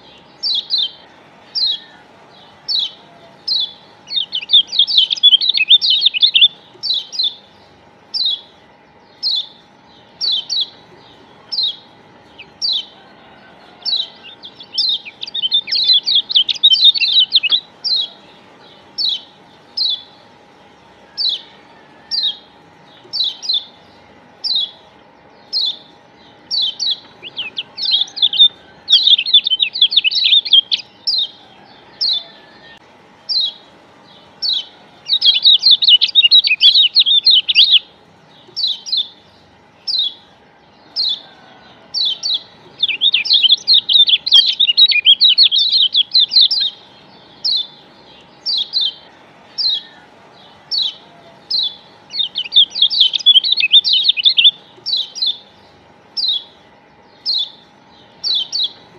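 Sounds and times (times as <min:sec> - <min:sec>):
bird chirping and chattering: 0:00.0 - 0:32.4, 0:33.2 - 0:41.3, 0:41.9 - 0:58.9.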